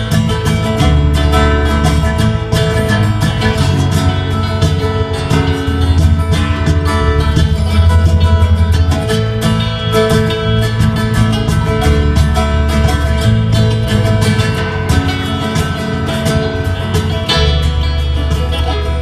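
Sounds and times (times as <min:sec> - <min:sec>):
electric guitar: 0:00.0 - 0:19.0
low bass notes: 0:00.0 - 0:19.0
picked banjo notes: 0:00.0 - 0:19.0
strummed acoustic guitar: 0:00.0 - 0:19.0.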